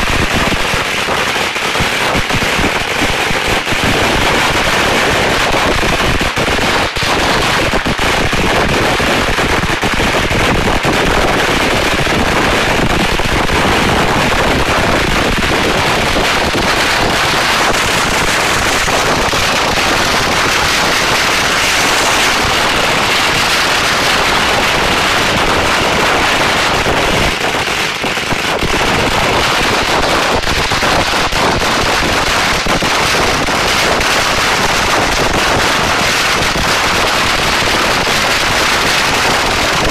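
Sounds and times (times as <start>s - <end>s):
firecrackers going off: 0.0s - 39.9s.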